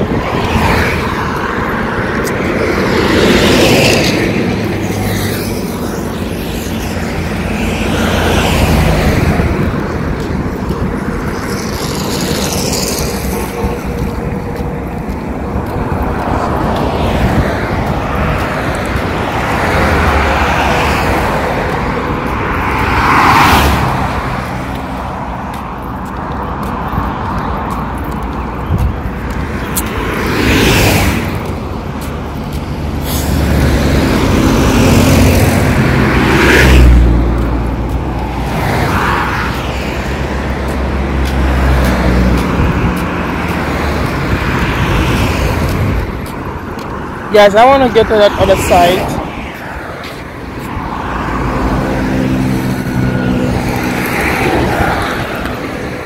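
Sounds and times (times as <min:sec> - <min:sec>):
cars swishing past: 0:00.0 - 0:56.0.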